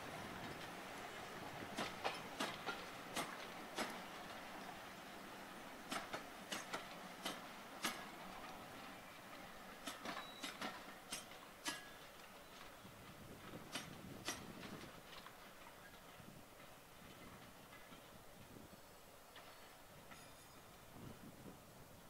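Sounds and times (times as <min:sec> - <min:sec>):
train wheels clicking over rail joints: 0:00.0 - 0:18.6, 0:19.2 - 0:21.0.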